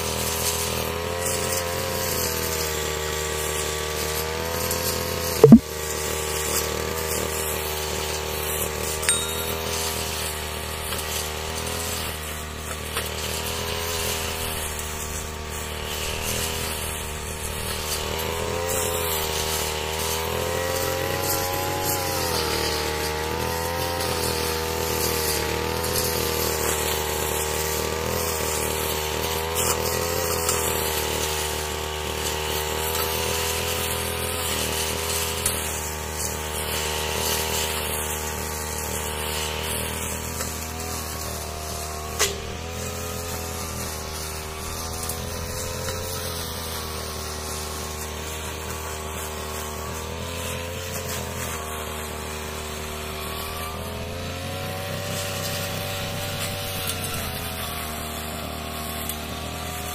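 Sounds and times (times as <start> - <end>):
brush cutter engine running: 0.0 - 59.9.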